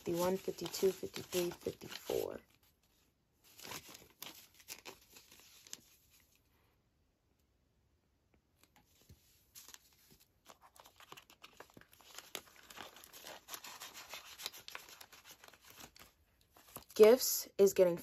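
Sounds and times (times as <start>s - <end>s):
plastic pockets and paper crinkling: 0.0s - 6.4s, 8.6s - 17.1s.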